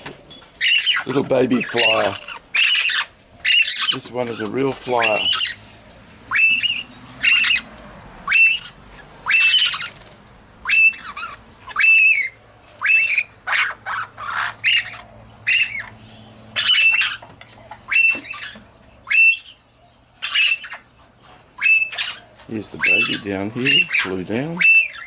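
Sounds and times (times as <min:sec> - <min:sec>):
parrots squawking: 0:00.6 - 0:25.0.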